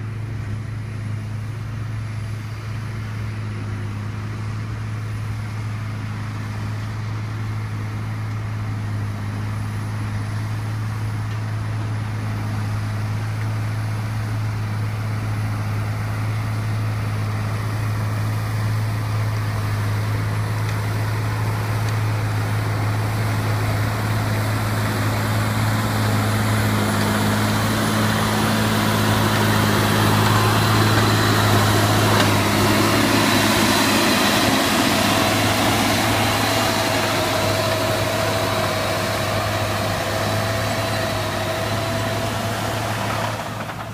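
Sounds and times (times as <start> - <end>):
tractor diesel engine droning: 0.0 - 43.9.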